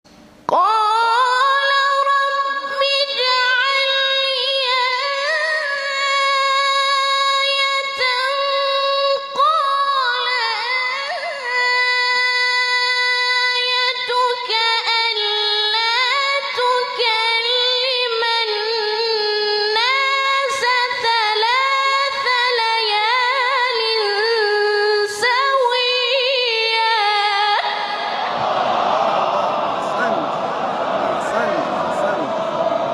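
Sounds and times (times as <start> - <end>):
high voice singing unaccompanied: 0.5 - 27.8.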